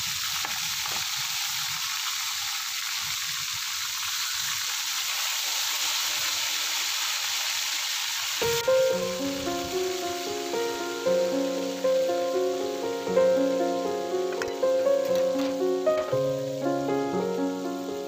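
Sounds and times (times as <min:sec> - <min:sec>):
fish sizzling in a wok: 0:00.0 - 0:18.0.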